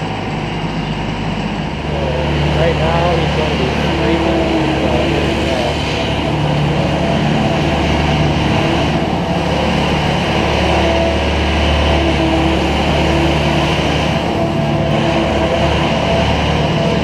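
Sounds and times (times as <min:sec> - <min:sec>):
machine engine running under load: 0:00.0 - 0:17.0.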